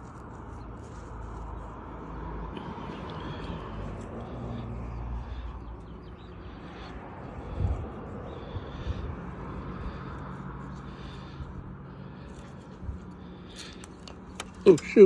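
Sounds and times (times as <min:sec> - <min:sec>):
low outdoor hum: 0:00.0 - 0:15.0.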